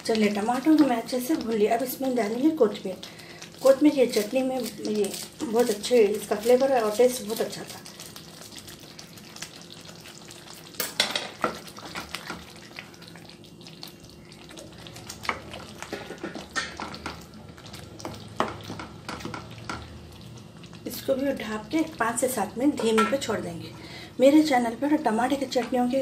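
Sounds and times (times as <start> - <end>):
sauce sizzling: 0.0 - 26.0.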